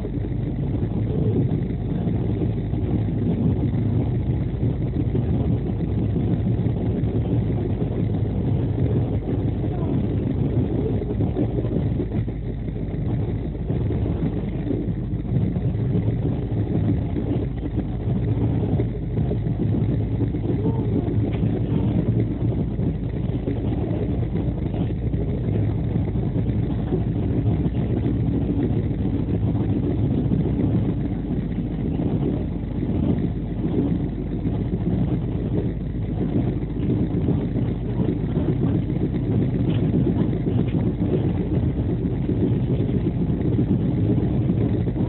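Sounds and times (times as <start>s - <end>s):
train coach rumbling on track: 0.0s - 45.0s.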